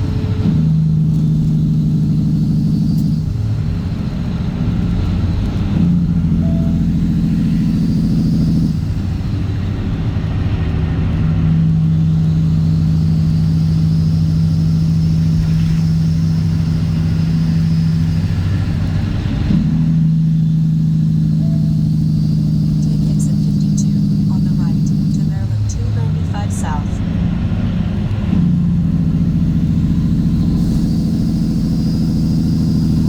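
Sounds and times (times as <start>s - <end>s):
truck diesel engine drone: 0.0s - 33.0s.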